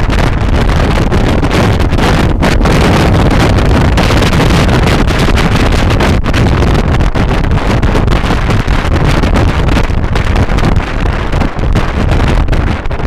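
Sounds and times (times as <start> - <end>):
low rumble of scooter ride: 0.0 - 13.0
wind buffeting microphone: 0.0 - 13.0.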